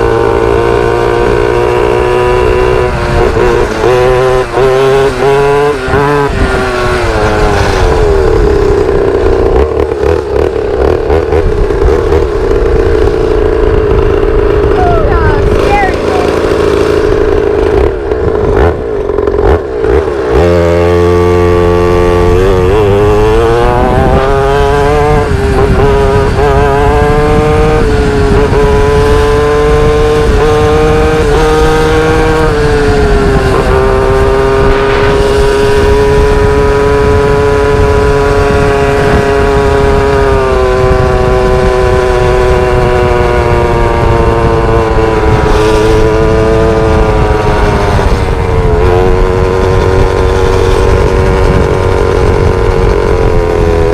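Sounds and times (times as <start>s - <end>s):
small motorbike engine accelerating: 0.0s - 53.9s.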